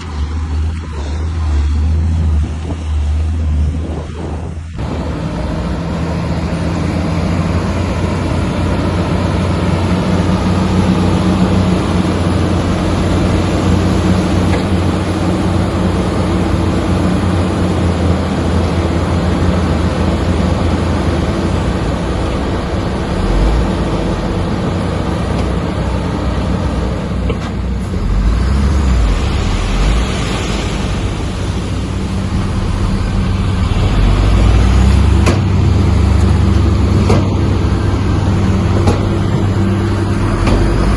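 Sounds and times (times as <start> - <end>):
deep engine rumbling: 0.0 - 40.9
diesel engine running: 0.0 - 40.9.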